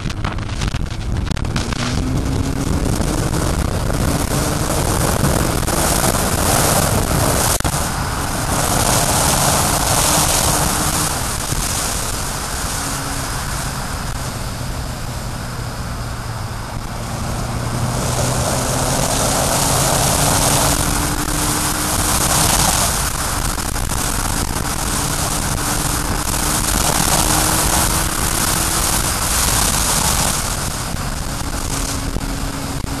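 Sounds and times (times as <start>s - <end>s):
motorcycle engine hum: 0.0s - 33.0s
wind rushing over camera: 0.0s - 33.0s.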